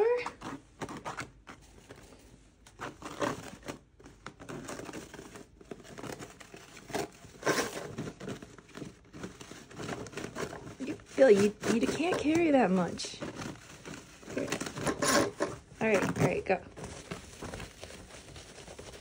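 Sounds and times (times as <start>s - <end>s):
paper towel rustling and crinkling: 0.1s - 19.0s.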